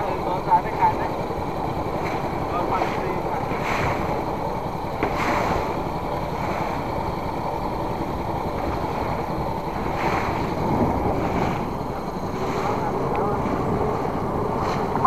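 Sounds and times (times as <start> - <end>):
boat engine noise: 0.0 - 15.0
water rushing along hull: 0.0 - 15.0
wind on microphone: 1.4 - 15.0.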